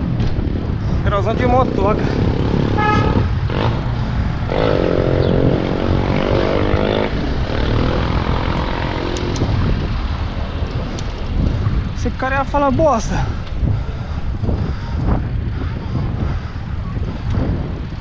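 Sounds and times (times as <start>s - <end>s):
wind rumbling on camera: 0.0s - 18.0s.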